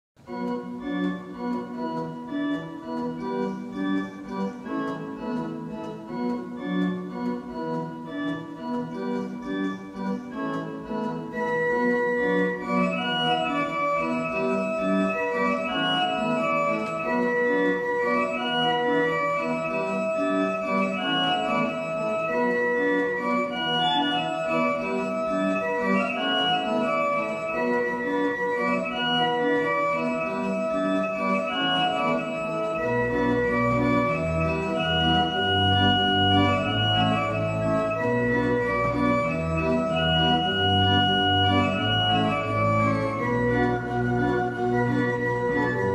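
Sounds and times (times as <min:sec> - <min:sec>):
organ music: 0:00.2 - 0:45.9.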